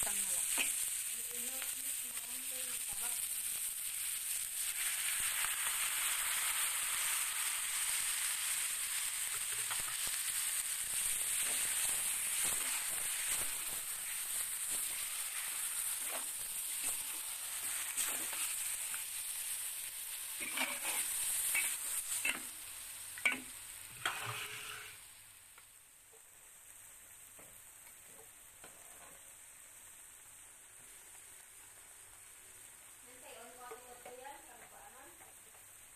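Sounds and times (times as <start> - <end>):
spice paste sizzling in hot oil: 0.0 - 35.9.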